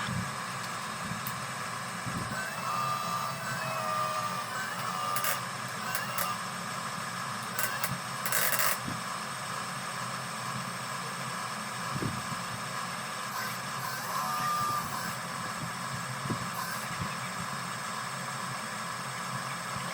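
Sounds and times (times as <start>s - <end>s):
electric motors whirring: 0.0s - 9.2s, 11.7s - 19.9s.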